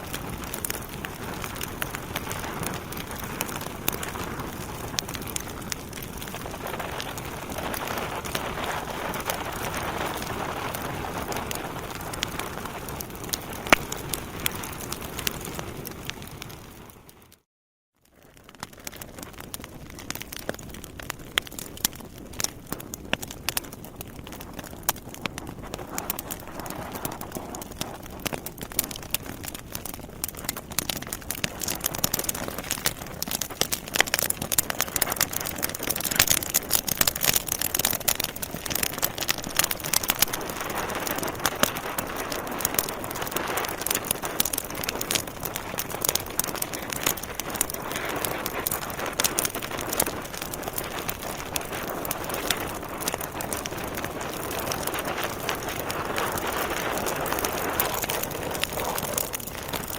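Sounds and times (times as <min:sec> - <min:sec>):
log fire crackling: 0:00.0 - 0:17.5, 0:18.1 - 0:59.9.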